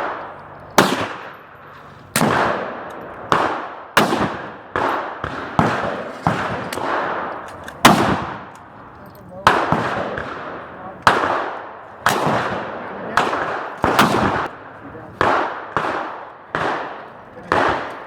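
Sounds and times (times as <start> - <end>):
rifle shots with echoes: 0.0 - 18.0.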